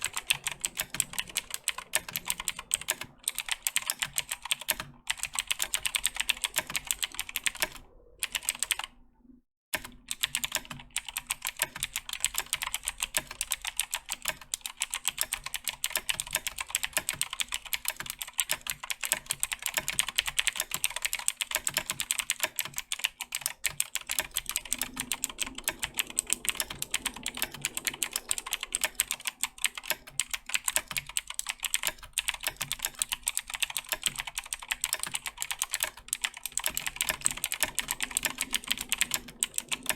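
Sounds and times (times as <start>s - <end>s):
mechanical keyboard typing: 0.0s - 8.9s, 9.8s - 39.9s.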